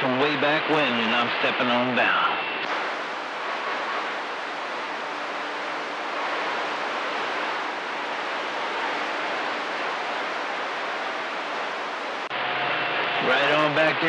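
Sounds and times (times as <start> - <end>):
faint steady tones: 0.0 - 14.0
radio receiver hiss: 0.0 - 14.0.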